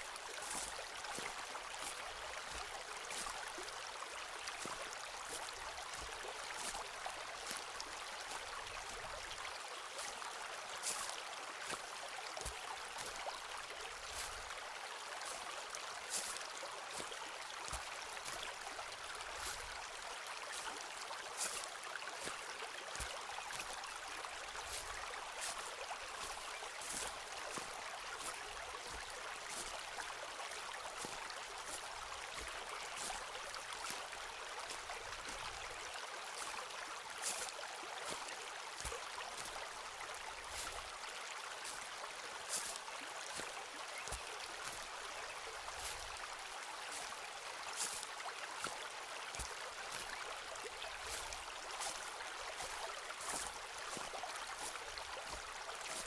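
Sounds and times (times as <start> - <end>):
footsteps crunching on forest floor: 0.0 - 3.7, 4.4 - 14.5, 15.2 - 56.0
stream water rushing: 0.0 - 56.0.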